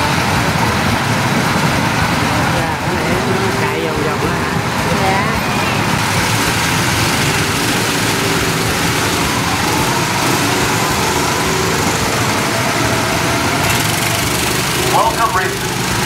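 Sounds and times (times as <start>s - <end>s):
go-kart engines idling: 0.0s - 16.0s.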